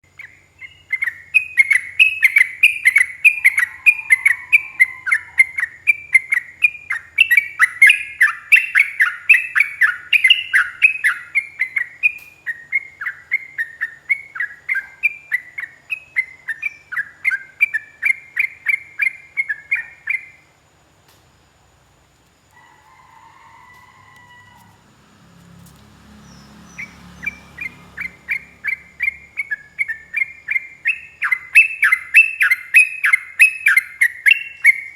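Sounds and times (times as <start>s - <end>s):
faint bird calls: 0.0s - 20.5s, 26.2s - 34.9s.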